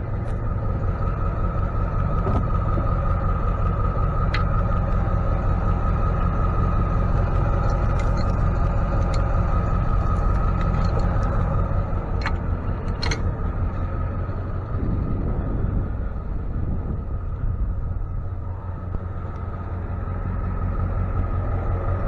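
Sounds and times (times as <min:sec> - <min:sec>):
constant whine: 0:00.0 - 0:22.0
truck engine and road rumble: 0:00.0 - 0:22.0.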